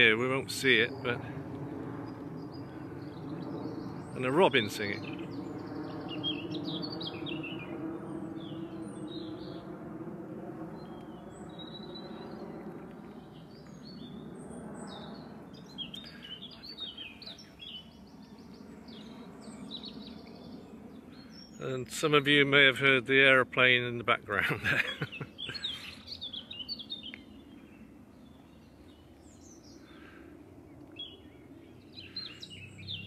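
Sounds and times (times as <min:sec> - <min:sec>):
aeroplane droning overhead: 0:00.0 - 0:33.0
songbirds singing: 0:00.0 - 0:33.0.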